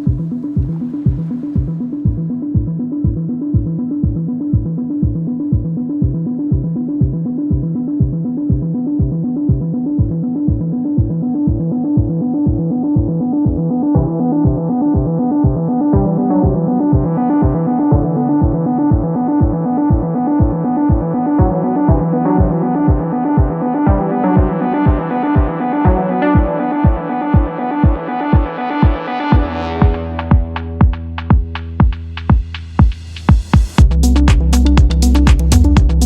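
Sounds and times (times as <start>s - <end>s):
bass line: 0.0s - 36.0s
kick drum beat: 0.0s - 36.0s
synthesizer chords: 0.0s - 36.0s.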